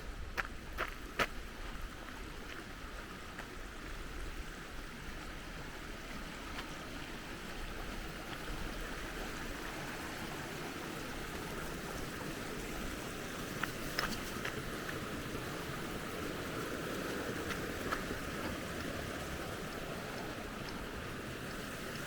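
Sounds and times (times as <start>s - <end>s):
stream water rushing: 0.1s - 22.0s.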